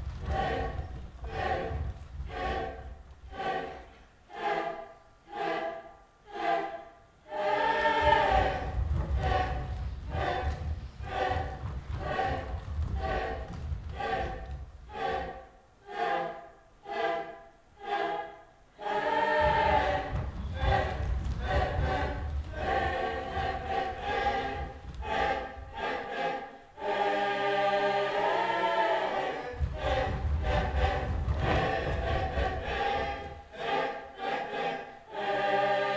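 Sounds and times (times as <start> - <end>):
choir singing: 0.0 - 35.9.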